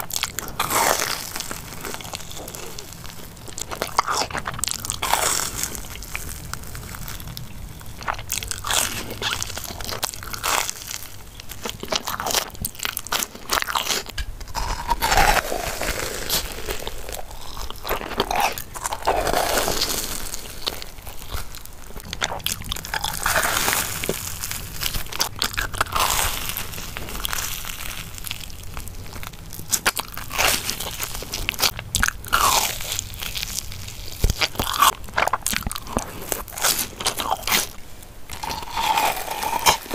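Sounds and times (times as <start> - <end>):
chewing soft food: 0.0 - 39.9
crunching fried snacks: 0.0 - 39.9.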